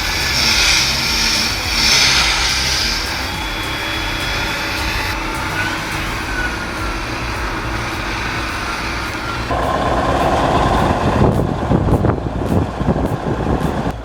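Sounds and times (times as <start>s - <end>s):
diesel machinery running: 0.0s - 14.0s.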